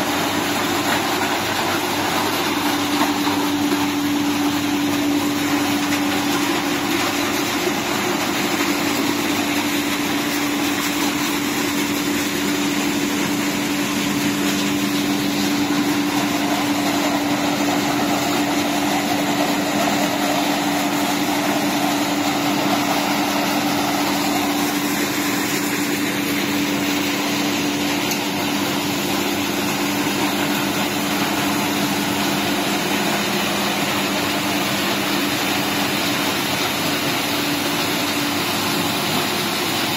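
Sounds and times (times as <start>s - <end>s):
steady machine drone: 0.0s - 39.9s.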